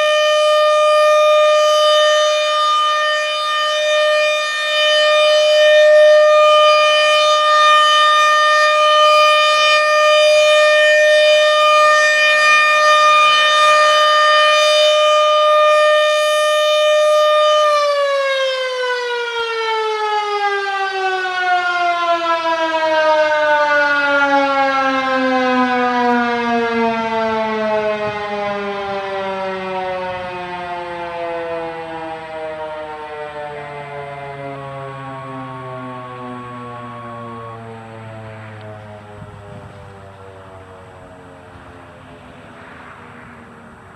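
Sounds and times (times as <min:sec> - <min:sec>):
mechanical siren winding down: 0:00.0 - 0:41.6.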